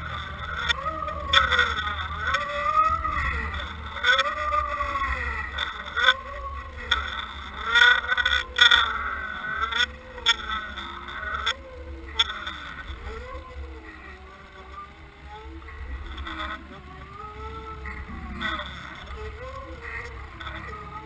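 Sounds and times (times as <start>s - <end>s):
propeller whine rising and falling: 0.0s - 21.0s
underwater engine hum: 0.0s - 21.0s.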